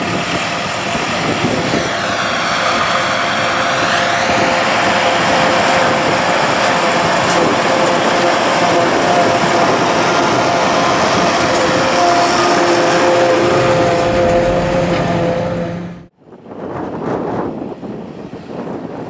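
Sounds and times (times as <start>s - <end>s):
forage harvester chopper running: 0.0s - 16.1s
tractor engine under load: 0.0s - 16.1s.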